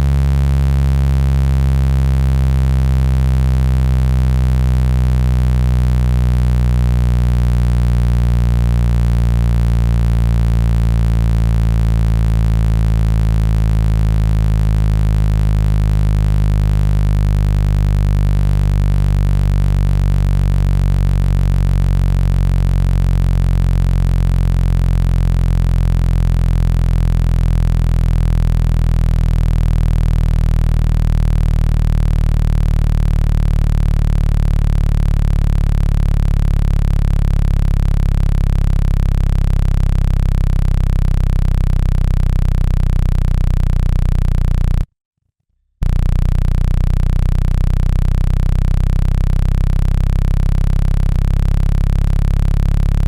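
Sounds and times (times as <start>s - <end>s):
buzzy low electronic tone: 0.0s - 44.9s, 45.8s - 53.0s.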